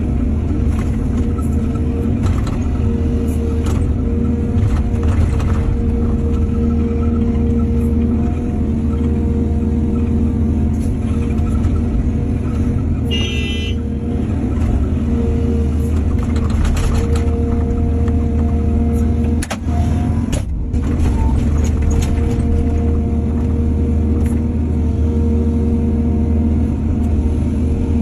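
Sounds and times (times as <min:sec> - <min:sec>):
diesel machinery running: 0:00.0 - 0:28.0.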